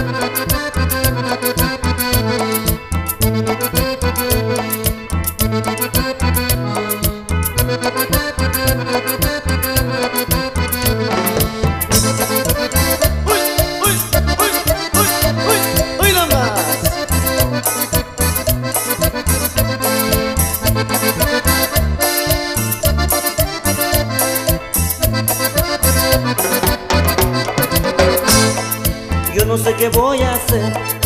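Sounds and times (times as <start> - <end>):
instrumental music with steady beat: 0.0 - 31.0.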